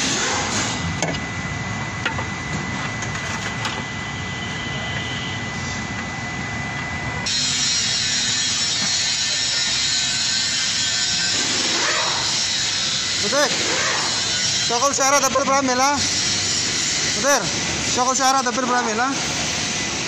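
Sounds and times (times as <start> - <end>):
high whine: 0.0 - 20.0.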